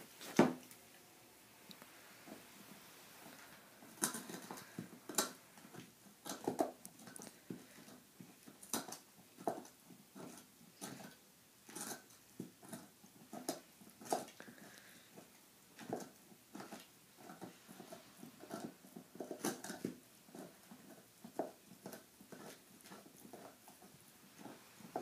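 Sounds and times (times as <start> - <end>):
dog gnawing a bone: 2.3 - 25.0.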